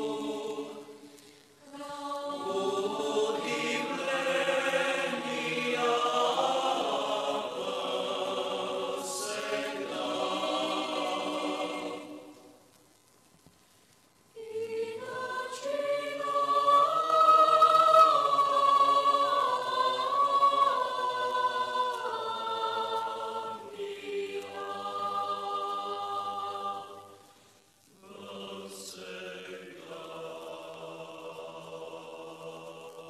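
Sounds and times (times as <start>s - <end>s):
choir singing chant: 0.0s - 12.6s, 14.4s - 27.3s, 28.0s - 33.0s.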